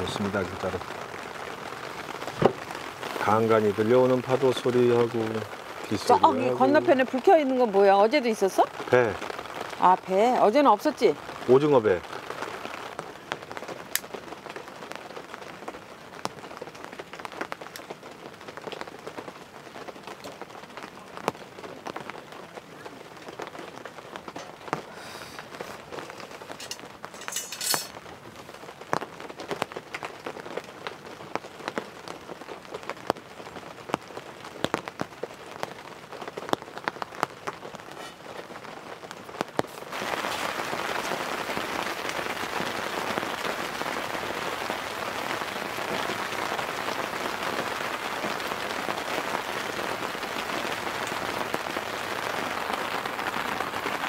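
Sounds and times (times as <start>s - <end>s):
heavy rain downpour: 0.0s - 54.0s
raindrops tapping on a surface: 0.0s - 54.0s.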